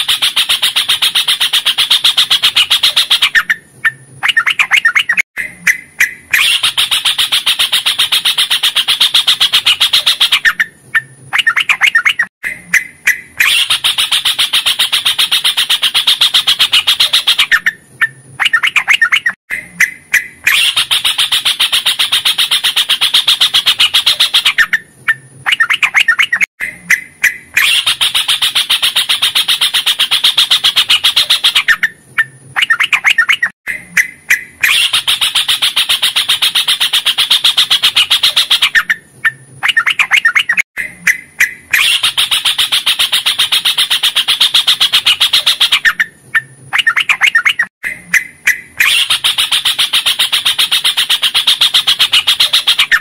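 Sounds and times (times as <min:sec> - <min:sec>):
bird singing rapid chattering song: 0:00.0 - 0:53.0.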